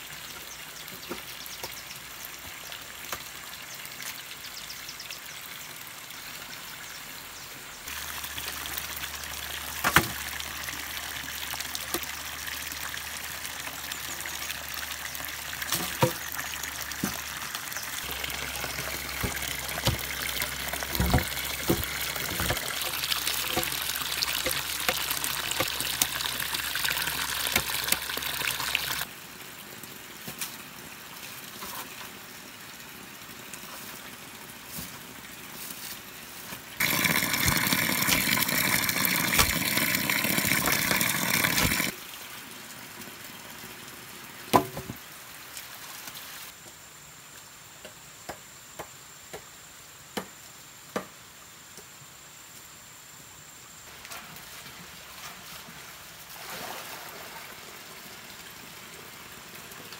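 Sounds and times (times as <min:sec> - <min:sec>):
water pouring and trickling: 0:00.0 - 0:46.6, 0:53.9 - 0:59.9.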